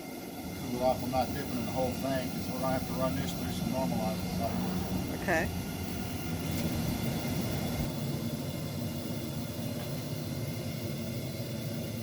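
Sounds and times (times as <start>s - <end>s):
forge roaring and hissing: 0.0s - 12.0s.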